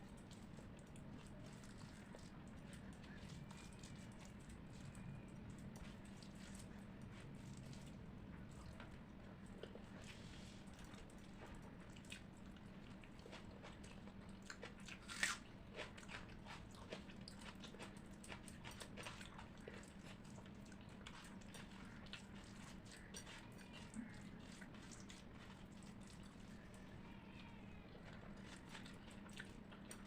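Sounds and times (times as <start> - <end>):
person chewing food: 0.0 - 26.9, 27.9 - 30.0.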